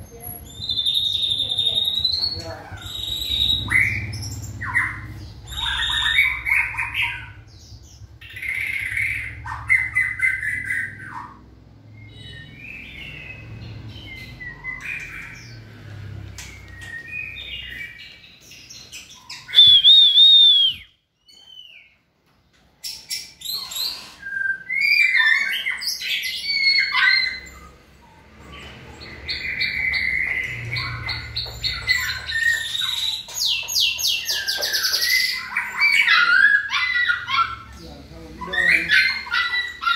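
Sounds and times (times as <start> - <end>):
birds whistling and singing: 0.0 - 22.1, 22.8 - 39.9.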